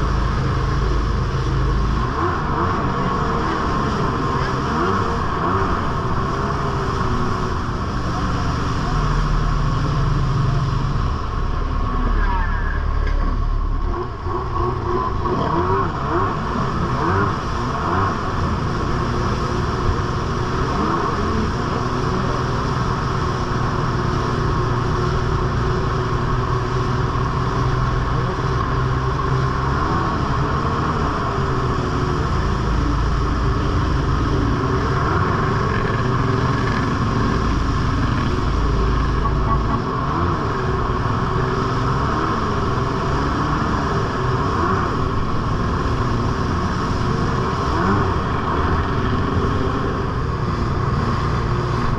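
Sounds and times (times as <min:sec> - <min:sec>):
jet ski engine running: 0:00.0 - 0:51.9
water rushing and spraying: 0:00.0 - 0:51.9.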